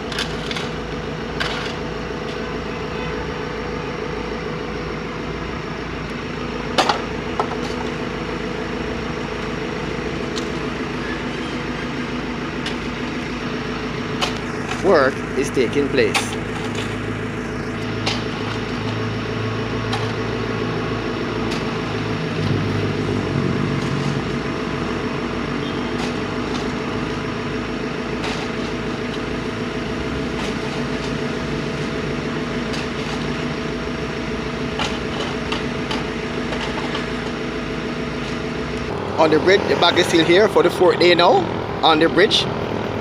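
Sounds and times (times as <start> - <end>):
engine idling: 0.0 - 43.0.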